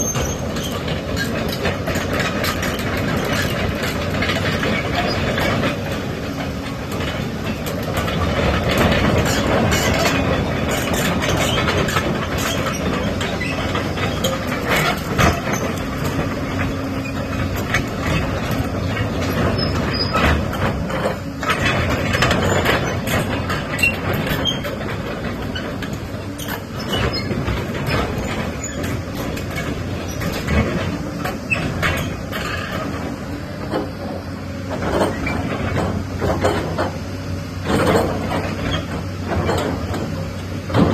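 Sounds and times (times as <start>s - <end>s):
excavator diesel engine: 0.0s - 40.9s
metallic clanks and knocks: 0.0s - 40.9s.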